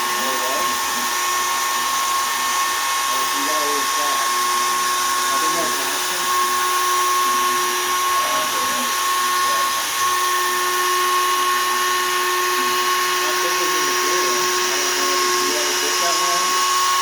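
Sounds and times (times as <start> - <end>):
router spindle high-pitched whine: 0.0 - 17.0.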